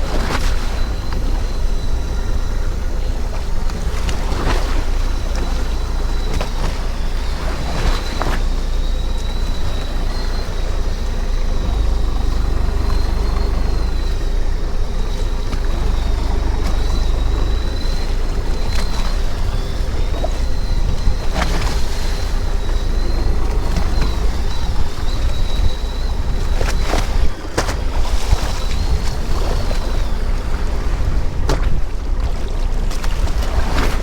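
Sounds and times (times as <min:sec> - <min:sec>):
thin high whine: 0:00.0 - 0:31.4
boat engine deep rumble: 0:00.0 - 0:34.0
water noise: 0:00.0 - 0:34.0
wind: 0:00.0 - 0:34.0.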